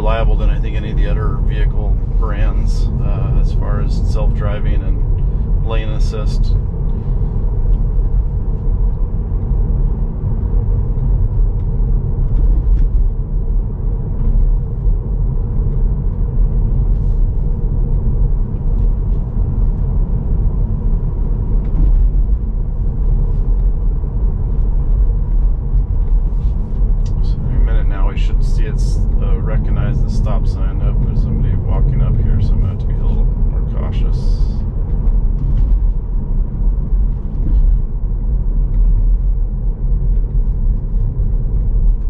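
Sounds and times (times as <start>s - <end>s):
road and tyre rumble: 0.0s - 42.0s.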